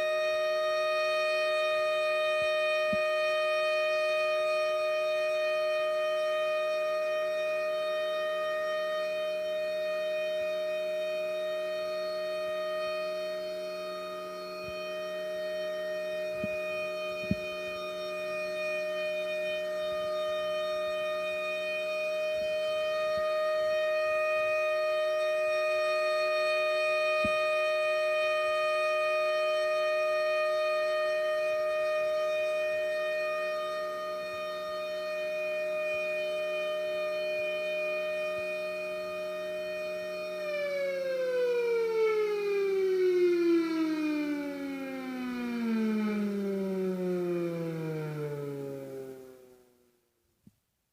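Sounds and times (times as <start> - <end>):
electromechanical siren: 0.0 - 50.0.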